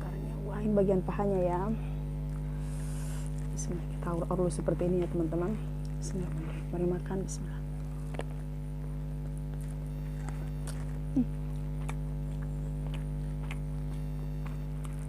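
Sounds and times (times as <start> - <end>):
electrical hum: 0.0 - 15.0
chewing and mouth sounds: 1.9 - 6.7, 7.6 - 15.0.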